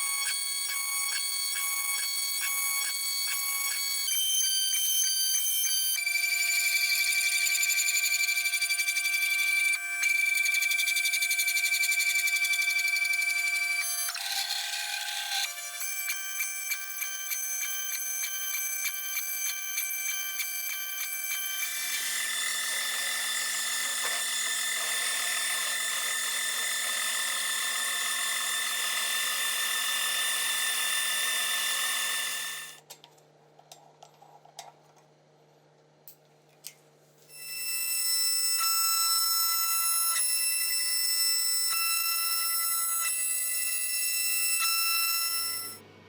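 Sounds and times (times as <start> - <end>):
power tool whining: 0.0 - 32.8, 37.3 - 45.9.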